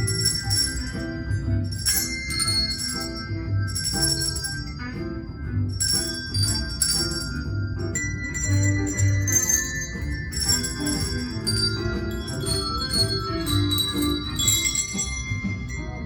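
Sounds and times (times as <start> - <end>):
handbells ringing a tune: 0.0 - 16.0.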